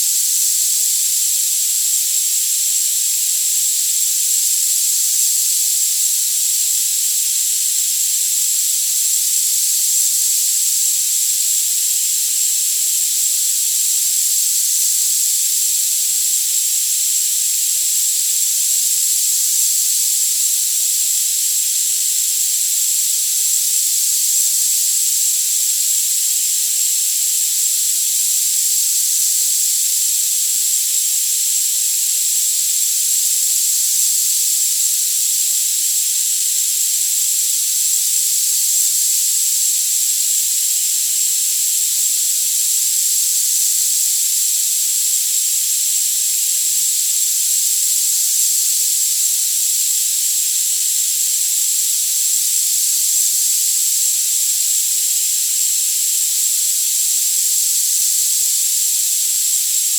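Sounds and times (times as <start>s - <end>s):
steady high-pitched hiss: 0.0s - 59.9s.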